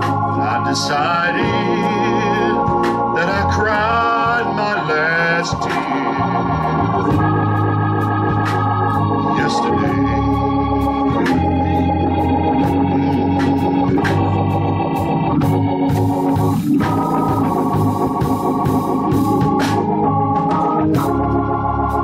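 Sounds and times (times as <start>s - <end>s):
bass line: 0.0s - 22.0s
organ playing chords: 0.0s - 22.0s.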